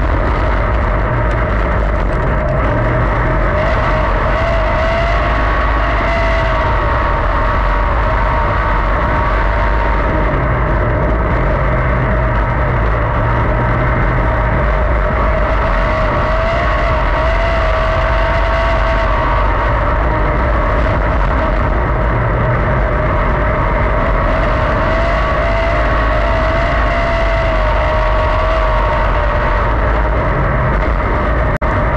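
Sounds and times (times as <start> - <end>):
race car engine droning: 0.0 - 31.9.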